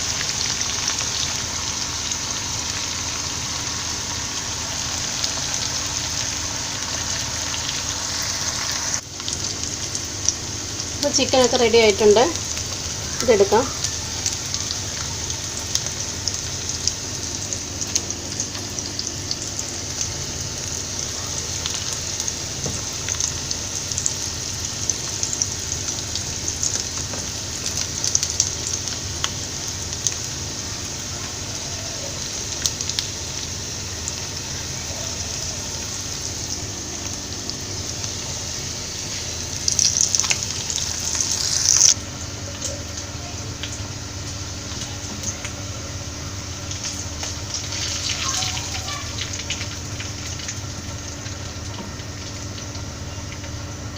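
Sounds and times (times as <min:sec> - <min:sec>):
chicken frying in hot oil: 0:00.0 - 0:53.9.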